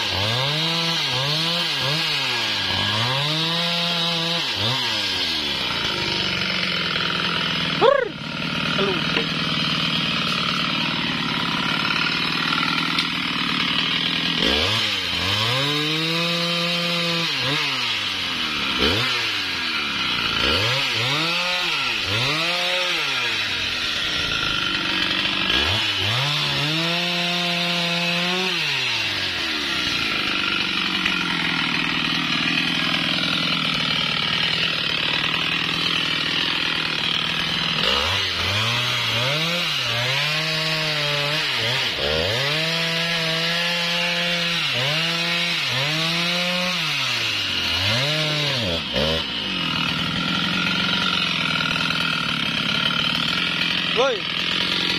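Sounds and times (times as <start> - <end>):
chainsaw cutting log: 0.0 - 54.9
chainsaw revving: 0.0 - 54.9.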